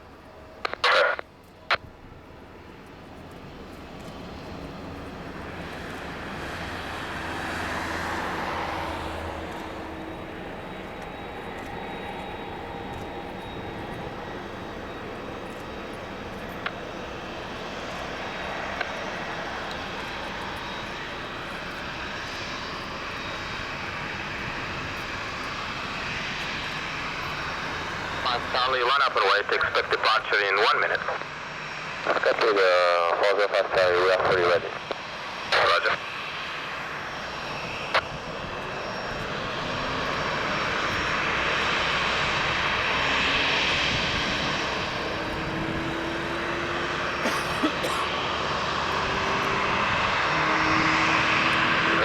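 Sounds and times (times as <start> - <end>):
jet airliner engines: 0.0 - 52.0.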